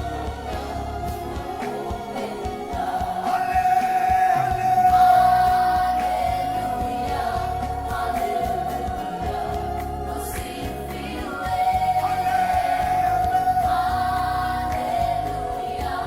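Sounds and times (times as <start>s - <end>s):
gospel choir singing: 0.0s - 16.0s
pulsing bass line: 0.0s - 16.0s.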